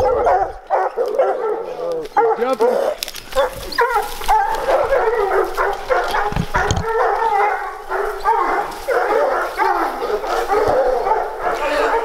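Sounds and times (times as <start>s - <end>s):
hunting dogs baying and barking: 0.0s - 12.0s.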